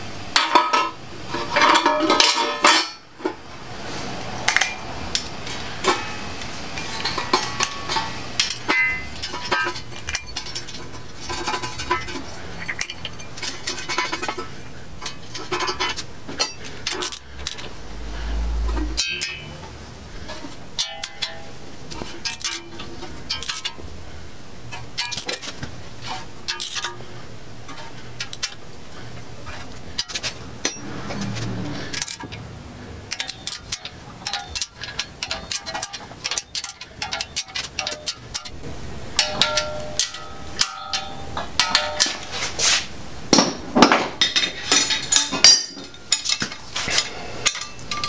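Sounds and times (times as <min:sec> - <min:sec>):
metal hardware clinking: 0:00.3 - 0:03.4, 0:04.4 - 0:17.8, 0:18.4 - 0:23.9, 0:24.6 - 0:48.0.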